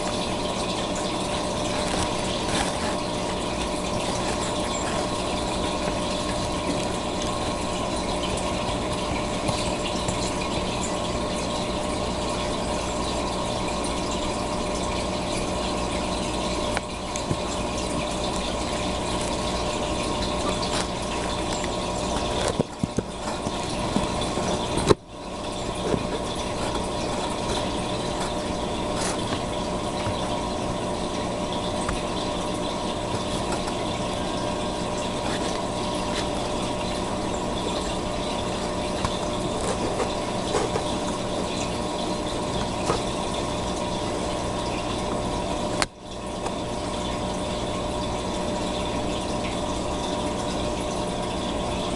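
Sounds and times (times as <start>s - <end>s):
steady mechanical hum: 0.0s - 51.9s.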